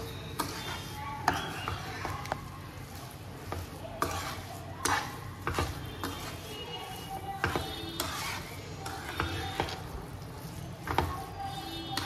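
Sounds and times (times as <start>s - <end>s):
faint sizzle: 0.0s - 12.0s
spoon scraping a pan: 0.0s - 12.0s.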